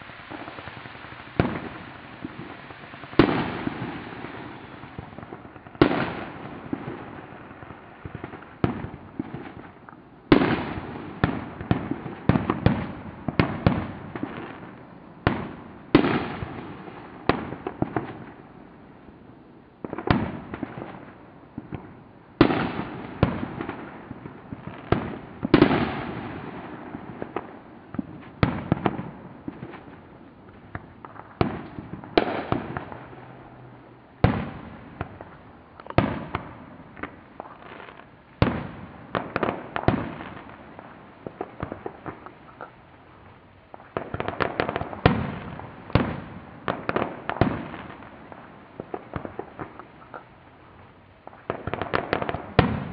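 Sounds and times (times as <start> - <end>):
fireworks bangs with echo: 0.0 - 18.6, 19.8 - 42.8, 43.7 - 52.9.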